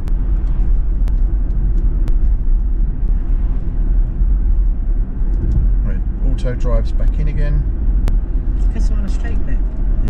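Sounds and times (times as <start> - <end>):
road rumble of tyres and wind: 0.0 - 10.0.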